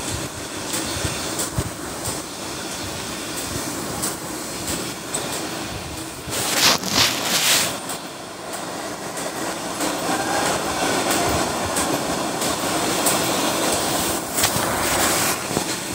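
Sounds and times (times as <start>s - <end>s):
wind noise on microphone: 0.0s - 9.0s, 10.3s - 15.9s.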